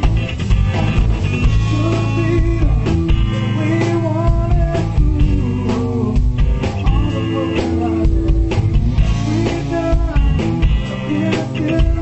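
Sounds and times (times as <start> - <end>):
electric guitar: 0.0 - 12.0
live rock band: 0.0 - 12.0
man singing: 0.7 - 12.0.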